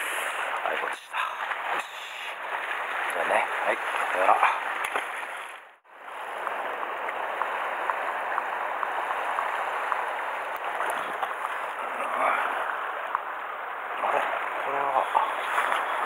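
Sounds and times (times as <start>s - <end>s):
water lapping against rocks: 0.0s - 16.0s.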